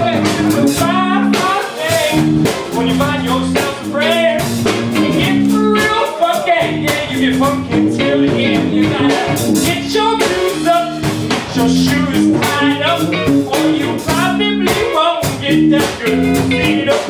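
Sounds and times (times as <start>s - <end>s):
guitar: 0.0s - 17.0s
person singing: 0.0s - 17.0s
steady drum beat: 0.0s - 17.0s.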